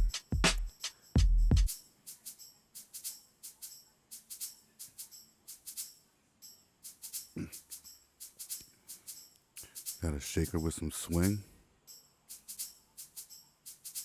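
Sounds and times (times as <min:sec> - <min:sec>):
shaker in swung pattern: 0:00.0 - 0:14.0.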